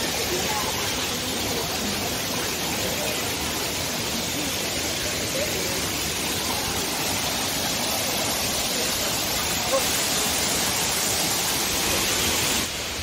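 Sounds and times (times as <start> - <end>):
faint voices: 0.0 - 12.8
waterfall rushing: 0.0 - 13.0.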